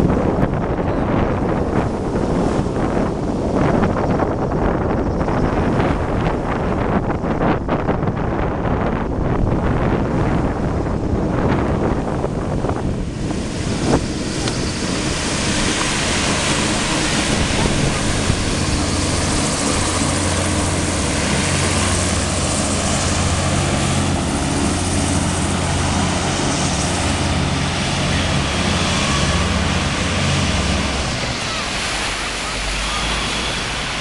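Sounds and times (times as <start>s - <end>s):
low engine drone: 0.0s - 34.0s
propeller and fan rush: 0.0s - 34.0s.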